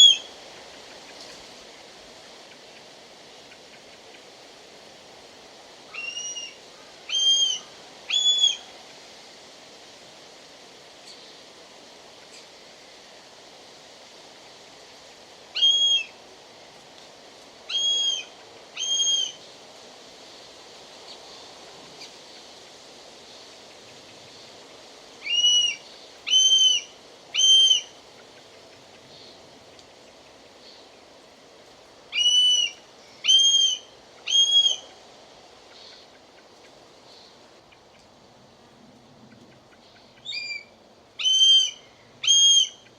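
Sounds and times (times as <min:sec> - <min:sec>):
faint background hiss: 0:00.0 - 0:42.9.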